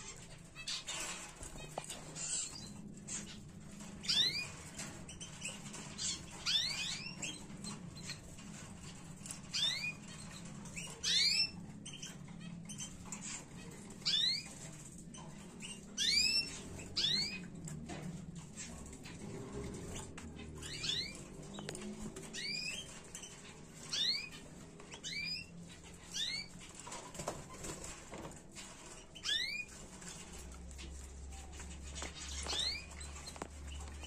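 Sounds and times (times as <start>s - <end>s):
canaries chirping: 0.0s - 34.0s.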